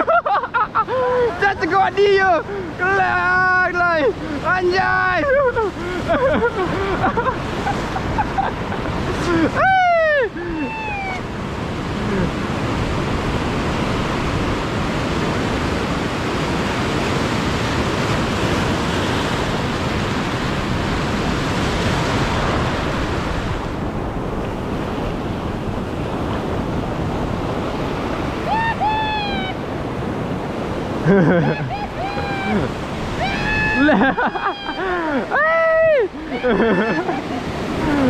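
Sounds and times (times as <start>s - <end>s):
surf washing over reef: 0.0s - 38.0s
wind buffeting microphone: 0.9s - 38.0s.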